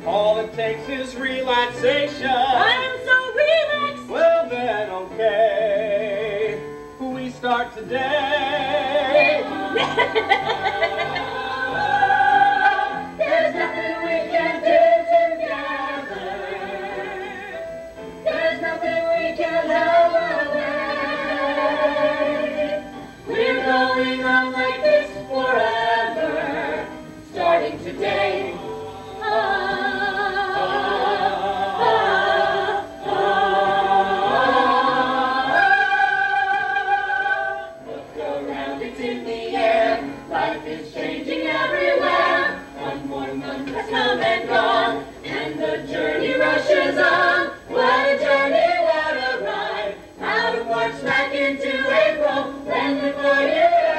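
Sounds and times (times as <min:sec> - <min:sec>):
ensemble singing in harmony: 0:00.0 - 0:53.9.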